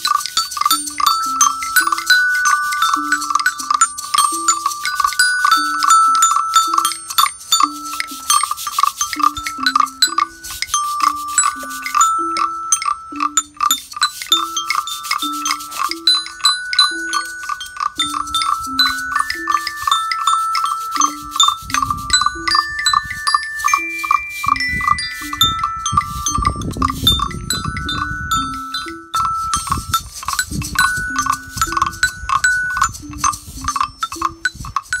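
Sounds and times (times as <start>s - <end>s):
glockenspiel high notes: 0.0s - 35.0s
low stepwise melody line: 0.0s - 35.0s
steady clicking beat: 0.0s - 35.0s.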